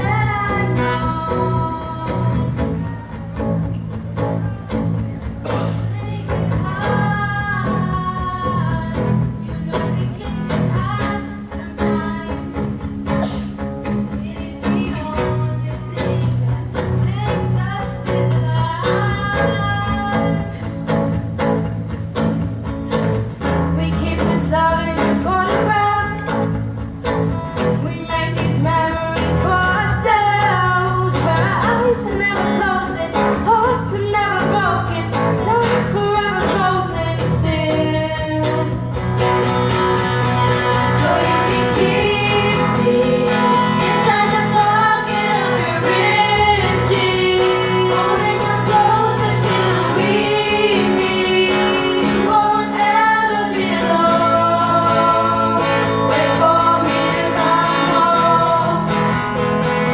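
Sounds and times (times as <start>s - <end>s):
girls singing into microphones: 0.0s - 22.3s, 23.0s - 59.9s
acoustic guitar: 0.0s - 59.9s.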